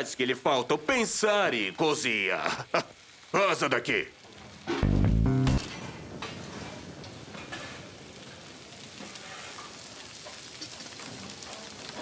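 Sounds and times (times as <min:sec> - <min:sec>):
food sizzling in a pan: 0:00.7 - 0:12.0.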